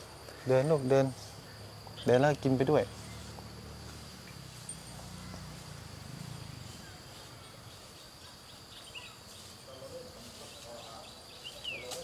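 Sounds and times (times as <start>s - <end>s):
faint chirps: 0.0s - 12.0s
insects buzzing: 0.0s - 12.0s.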